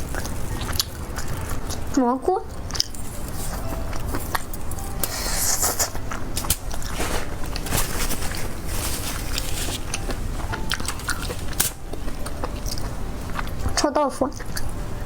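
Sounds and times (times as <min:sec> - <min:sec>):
biting and chewing fried food: 0:00.0 - 0:14.9.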